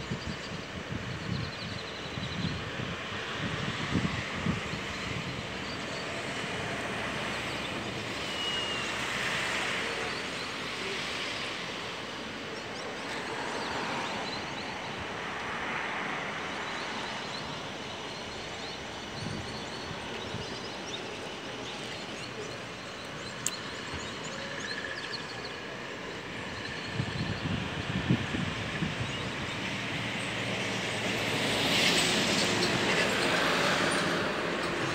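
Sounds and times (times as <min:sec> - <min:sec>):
distant jet engines rushing: 0:00.1 - 0:34.9.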